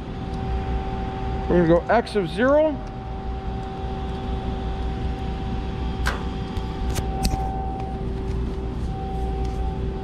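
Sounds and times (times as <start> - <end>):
machine-shop hum: 0.0 - 10.0.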